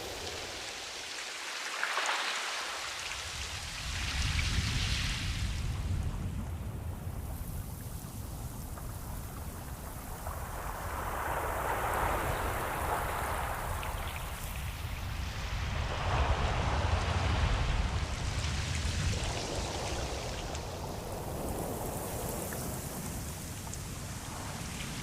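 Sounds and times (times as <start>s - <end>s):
low rumble of surf: 0.0s - 25.0s
ocean waves washing in: 0.0s - 25.0s.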